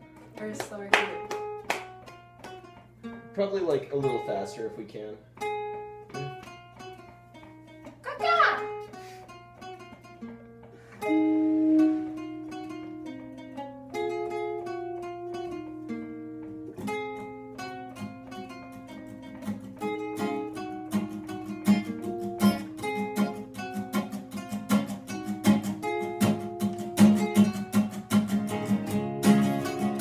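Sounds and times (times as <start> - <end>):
acoustic guitars playing: 0.0 - 30.0.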